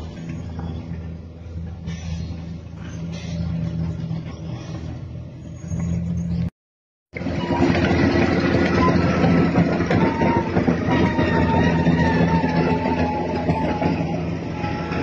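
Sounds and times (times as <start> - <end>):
bulldozer diesel engine running: 0.0 - 6.5, 7.1 - 15.0.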